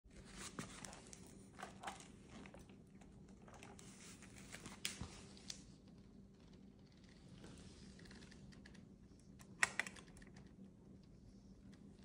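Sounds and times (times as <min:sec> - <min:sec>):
faint low hum: 0:00.1 - 0:12.0.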